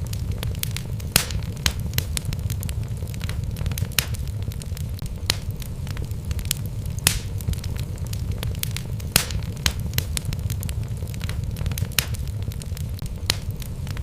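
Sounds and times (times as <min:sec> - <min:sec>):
fire low rumble: 0:00.0 - 0:14.0
logs crackling and popping: 0:00.0 - 0:14.0.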